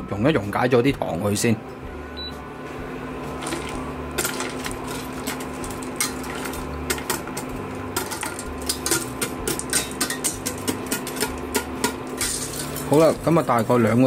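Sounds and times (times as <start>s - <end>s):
steady low hum: 0.9s - 14.0s.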